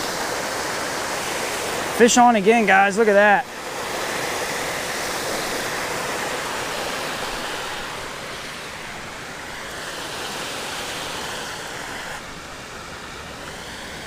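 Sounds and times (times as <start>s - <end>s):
creek water rushing over rocks: 0.0s - 14.0s.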